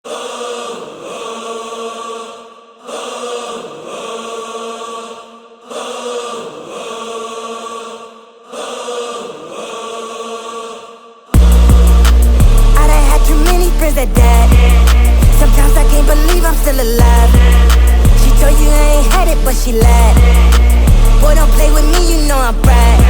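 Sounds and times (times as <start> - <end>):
sped-up choir-like vocal sample: 0.0 - 23.0.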